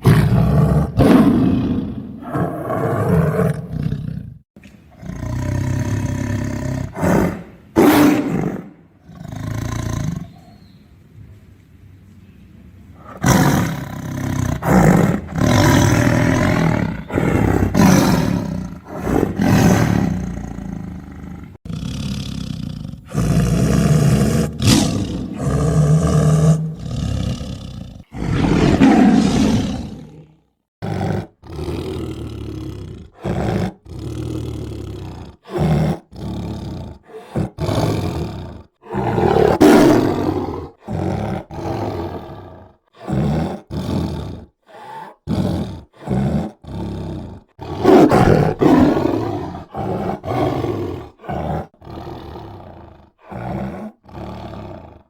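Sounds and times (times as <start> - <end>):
tiger roaring: 0.0 - 10.6, 13.0 - 55.0.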